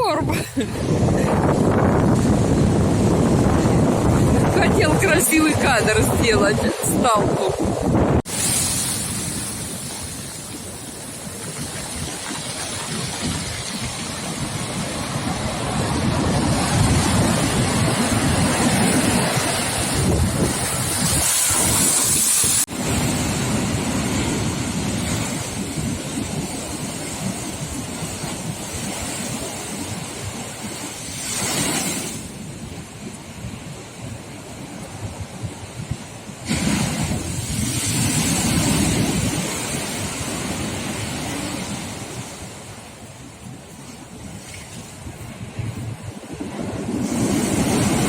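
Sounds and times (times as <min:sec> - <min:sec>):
surf breaking on shore: 0:00.0 - 0:48.0
wind buffeting microphone: 0:00.0 - 0:48.0.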